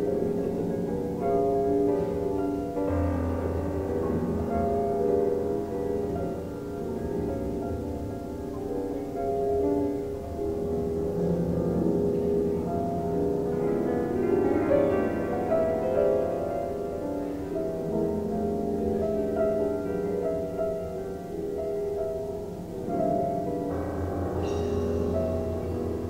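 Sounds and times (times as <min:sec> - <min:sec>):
solo piano playing: 0:00.0 - 0:26.0.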